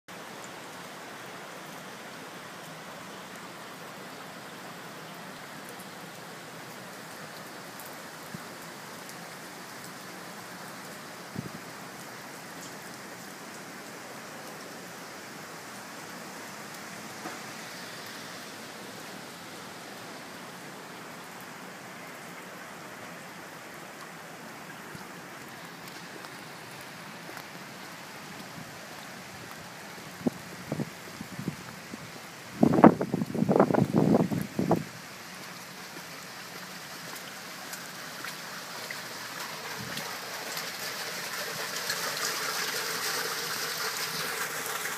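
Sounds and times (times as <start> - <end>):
rain falling: 0.1 - 44.9.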